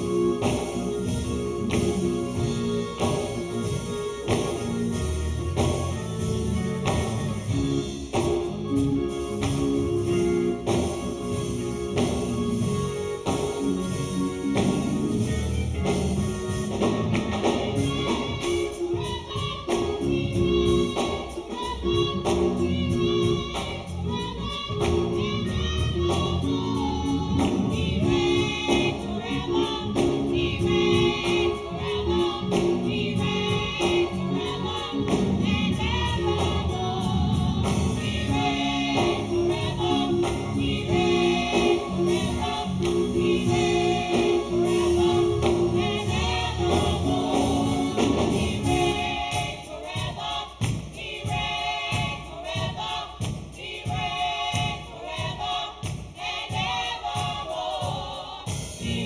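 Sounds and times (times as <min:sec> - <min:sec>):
group singing gospel: 0:00.0 - 0:59.0
instrumental backing with beat: 0:00.0 - 0:59.0.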